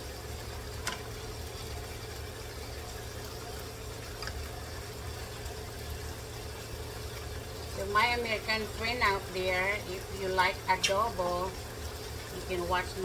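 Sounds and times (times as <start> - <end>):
constant low hum: 0.0 - 13.0
pot simmering and bubbling: 0.0 - 13.0.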